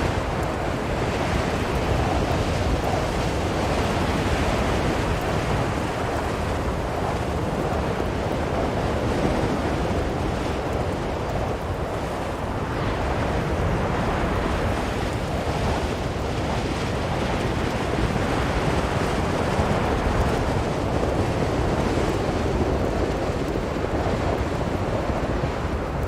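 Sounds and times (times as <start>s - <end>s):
blizzard wind blowing: 0.0s - 26.0s.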